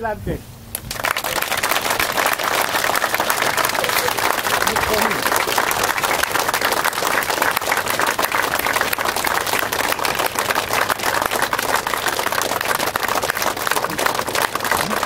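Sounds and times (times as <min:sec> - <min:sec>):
crowd applauding: 0:00.7 - 0:15.0.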